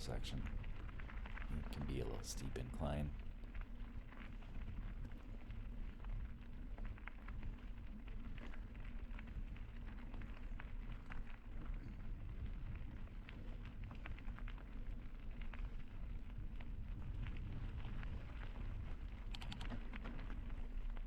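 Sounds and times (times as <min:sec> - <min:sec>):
bike tires rolling on road: 0:00.0 - 0:21.0.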